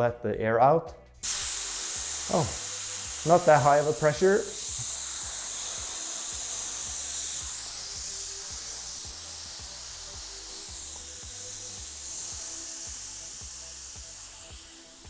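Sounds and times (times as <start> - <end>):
air hissing from tire valve: 1.2 - 15.0.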